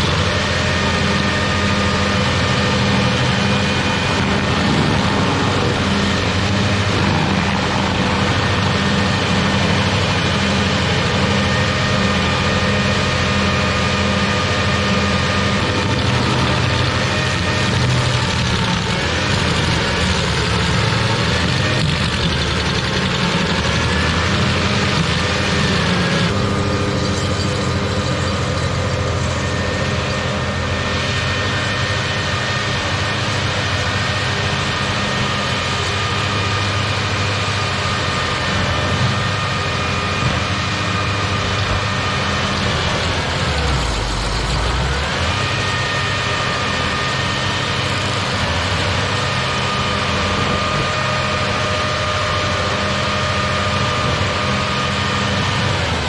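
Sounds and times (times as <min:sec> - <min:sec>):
stump grinder grinding: 0:00.0 - 0:56.0.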